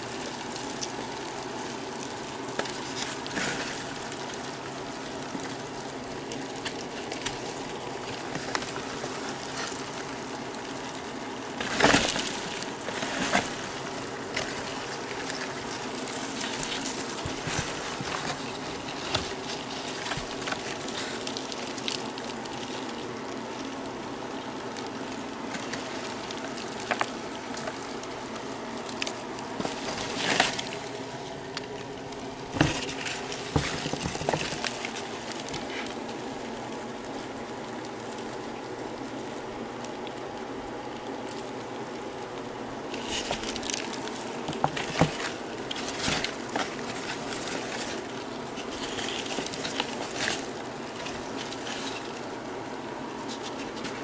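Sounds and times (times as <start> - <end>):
roaches rustling and clicking: 0.0 - 54.0
steady hum: 0.0 - 54.0.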